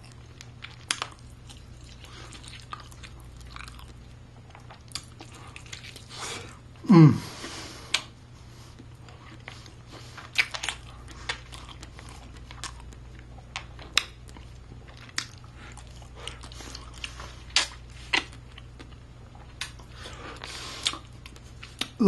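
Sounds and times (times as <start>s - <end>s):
person chewing: 0.0s - 22.0s.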